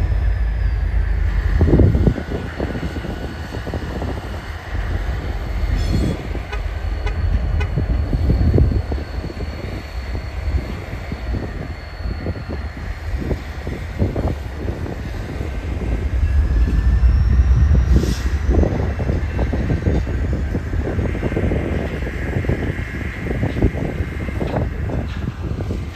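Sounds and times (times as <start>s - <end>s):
diesel locomotives moving slowly: 0.0s - 25.9s
faint high whine: 0.0s - 25.9s
wind buffeting microphone: 0.0s - 25.9s.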